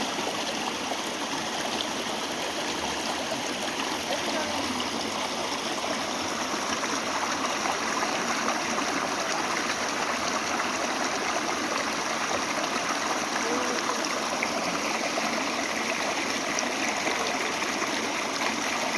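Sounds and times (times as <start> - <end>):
stream water rushing over rocks: 0.0 - 18.9.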